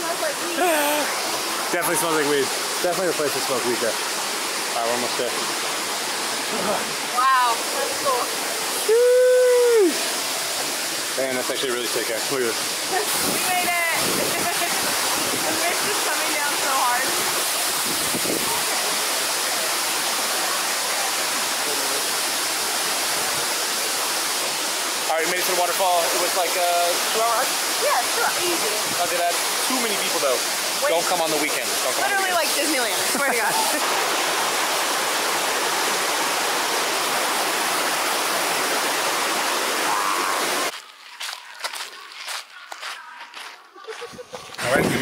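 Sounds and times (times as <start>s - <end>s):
waterfall rushing: 0.0s - 40.8s.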